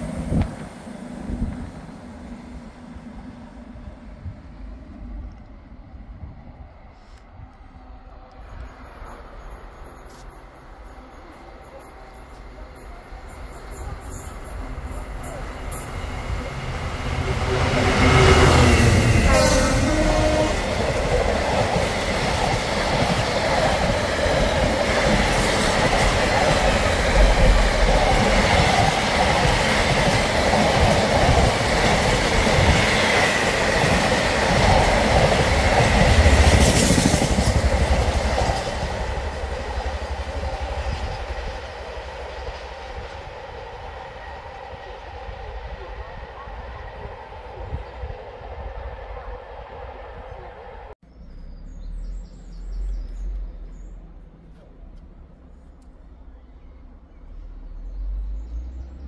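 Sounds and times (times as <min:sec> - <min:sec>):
train passing: 0:00.0 - 0:51.0.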